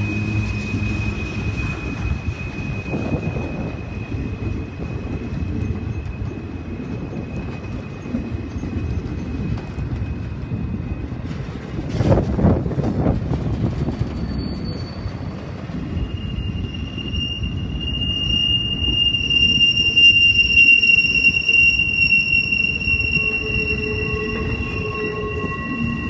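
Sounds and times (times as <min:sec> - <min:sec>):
high wheel squeal: 0:00.0 - 0:11.2, 0:14.1 - 0:26.0
train rumbling past: 0:00.0 - 0:26.0.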